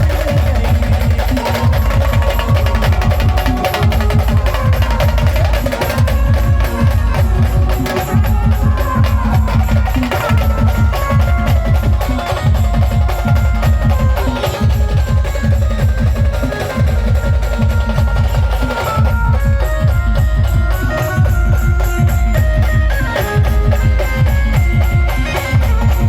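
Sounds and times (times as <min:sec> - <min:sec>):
fast heavy drumming: 0:00.0 - 0:26.0
village band playing: 0:00.0 - 0:26.0.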